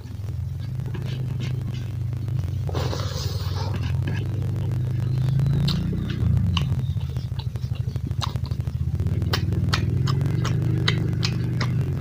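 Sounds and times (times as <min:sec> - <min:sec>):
low throbbing hum: 0:00.0 - 0:12.0
person chewing with lip smacks: 0:00.0 - 0:12.0.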